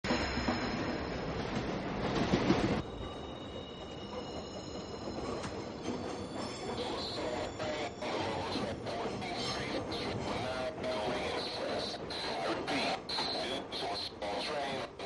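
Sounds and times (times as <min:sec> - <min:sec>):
subway train rumble: 0:00.1 - 0:15.0.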